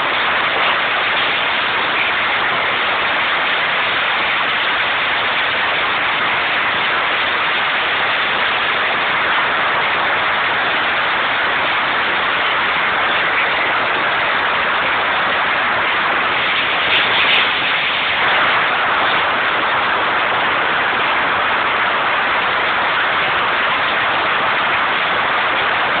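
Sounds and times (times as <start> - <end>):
engine room machinery noise: 0.0 - 26.0.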